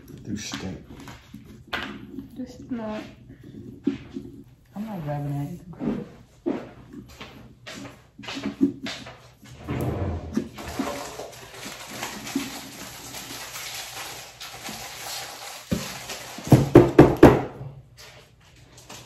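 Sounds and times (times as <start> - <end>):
spoon scraping pumpkin pulp: 0.0 - 16.4.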